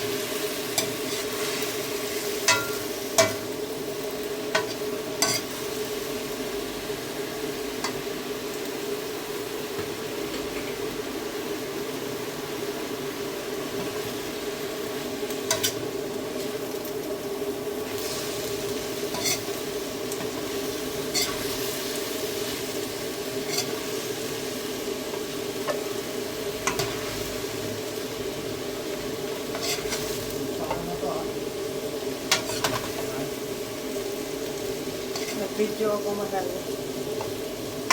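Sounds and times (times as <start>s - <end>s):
food sizzling in a frying pan: 0.0s - 37.9s.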